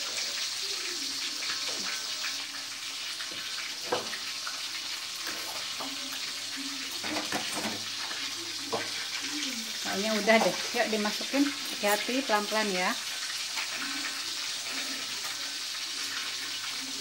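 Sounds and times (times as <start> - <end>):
oil hissing in a wok: 0.0 - 17.0.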